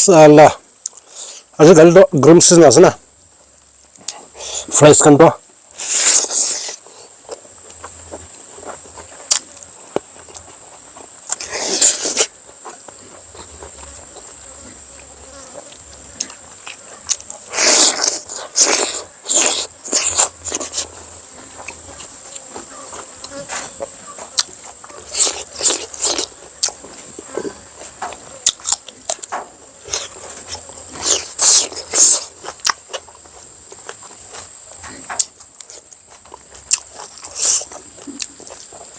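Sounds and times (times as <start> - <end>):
person chewing and smacking: 5.8 - 38.9.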